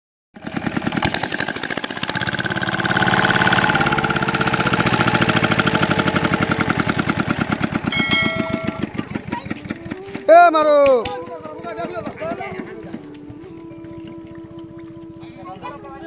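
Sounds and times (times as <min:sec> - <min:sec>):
small engine driving water pump: 0:00.4 - 0:16.0.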